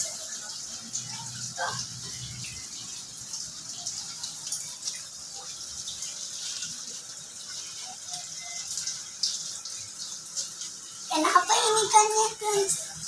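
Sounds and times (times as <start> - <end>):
running splashing water: 0.0 - 13.0.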